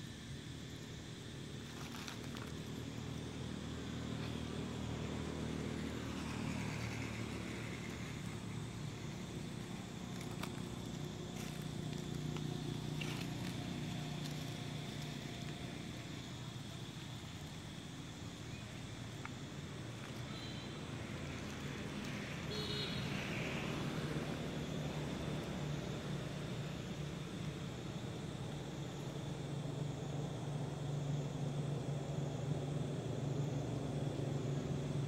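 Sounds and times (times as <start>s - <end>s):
vehicles passing: 1.5s - 35.0s.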